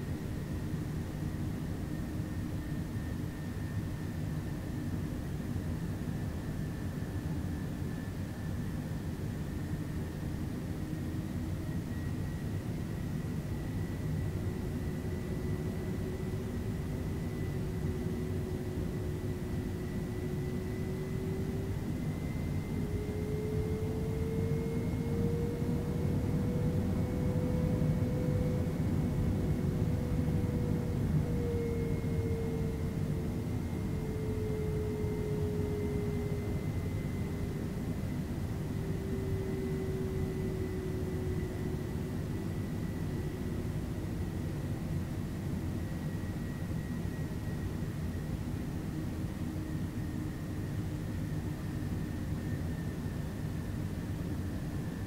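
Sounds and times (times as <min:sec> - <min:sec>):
faint high whine: 0:00.0 - 0:55.0
jet engines rumbling in cabin: 0:00.0 - 0:55.0.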